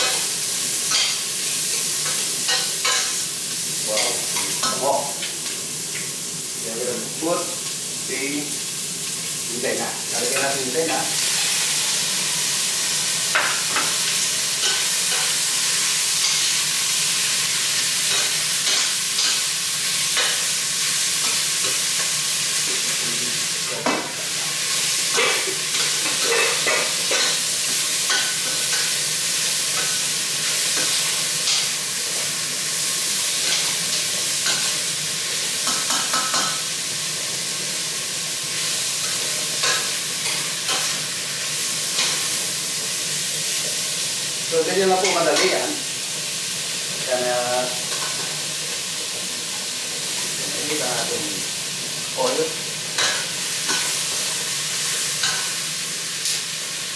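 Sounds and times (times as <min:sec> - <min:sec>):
meat sizzling in hot oil: 0:00.0 - 0:56.9.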